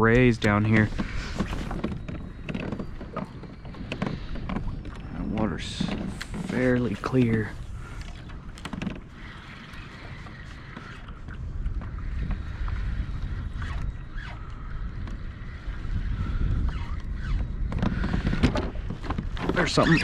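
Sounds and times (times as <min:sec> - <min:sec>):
water lapping against hull: 0:00.0 - 0:20.0
wind buffeting microphone: 0:00.0 - 0:20.0.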